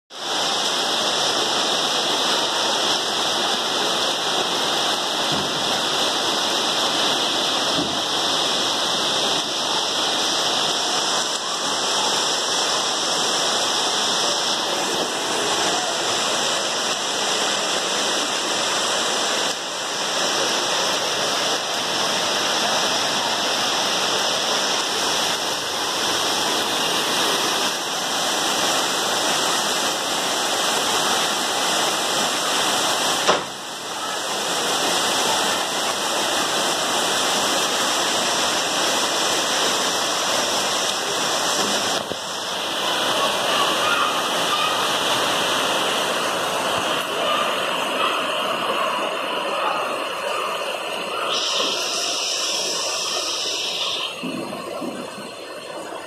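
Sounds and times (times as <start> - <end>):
heavy rain on pavement and cars: 0.1 - 56.0.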